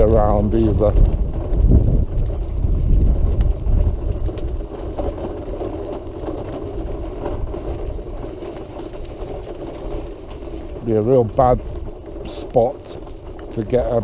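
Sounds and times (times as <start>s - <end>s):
wheelchair rolling: 0.0s - 14.0s.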